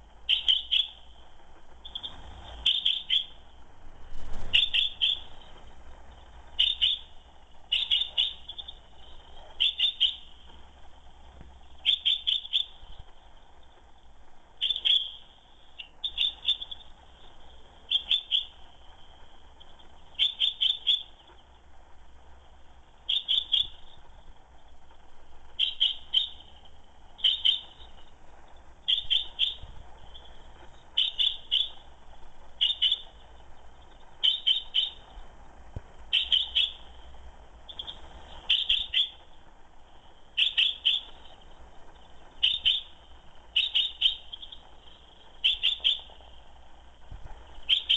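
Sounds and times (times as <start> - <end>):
chaffinch calling: 0.0 - 3.6, 4.4 - 10.8, 11.6 - 13.7, 14.5 - 21.6, 23.0 - 24.2, 25.5 - 35.2, 36.0 - 47.9.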